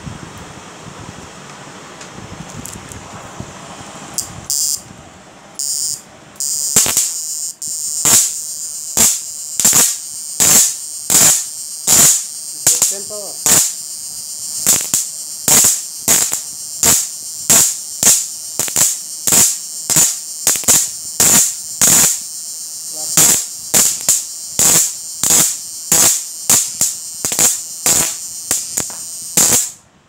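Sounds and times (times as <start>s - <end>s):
machine high-pitched whine: 4.1s - 4.9s, 5.5s - 29.8s
electric arcs crackling: 4.2s - 4.8s, 5.6s - 29.8s.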